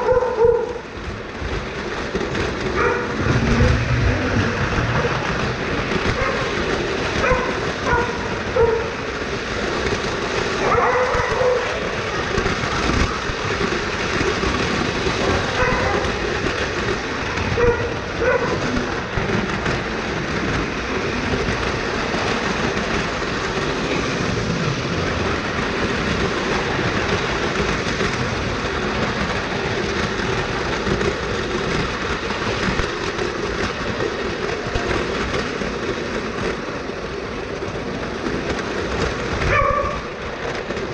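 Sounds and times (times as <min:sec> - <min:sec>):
wheels rattling on rails: 0:00.0 - 0:40.9.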